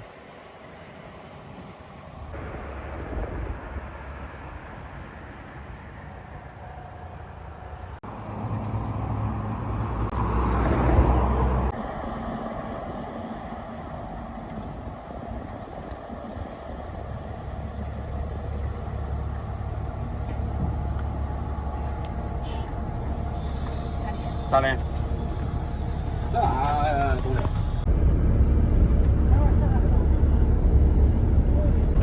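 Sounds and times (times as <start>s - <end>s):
vehicle engine and road rumble: 0.0s - 32.0s.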